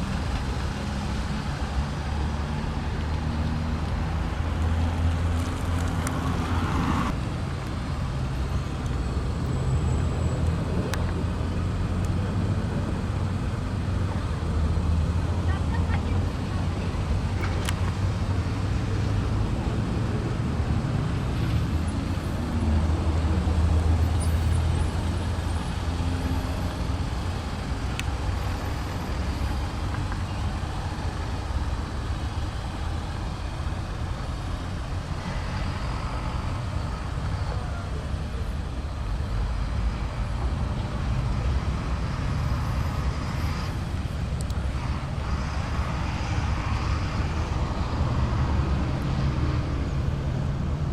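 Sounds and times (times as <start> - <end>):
vehicle rumble: 0.0 - 50.9.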